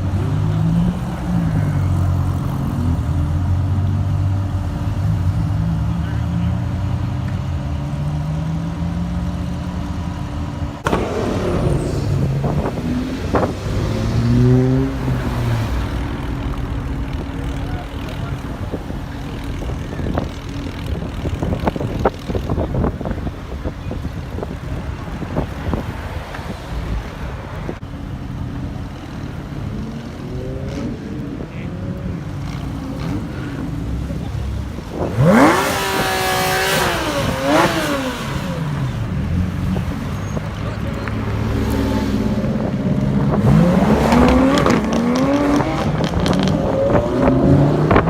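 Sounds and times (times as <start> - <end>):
car engine revving: 0.0 - 27.8, 28.7 - 48.0.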